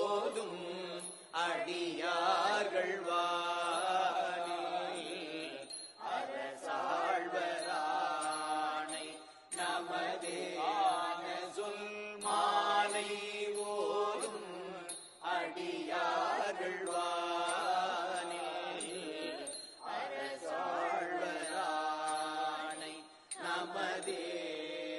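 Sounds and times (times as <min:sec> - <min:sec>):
devotional hymn chanting: 0:00.0 - 0:24.9.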